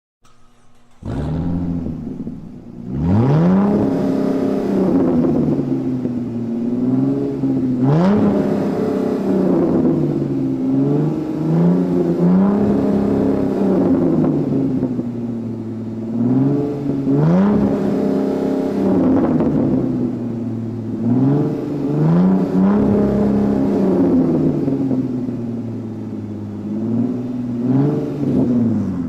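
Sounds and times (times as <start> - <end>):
car engine revving: 0.2 - 29.0.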